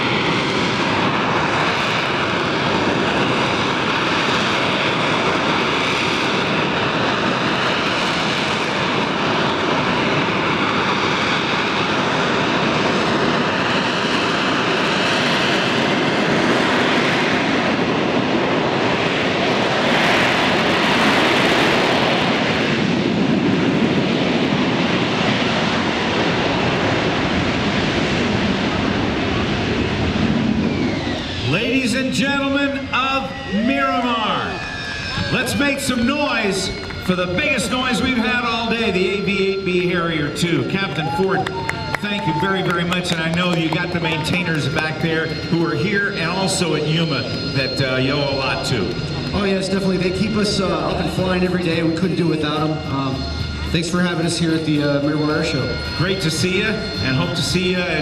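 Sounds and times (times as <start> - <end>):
jet engine roar with high whine: 0.0 - 58.0.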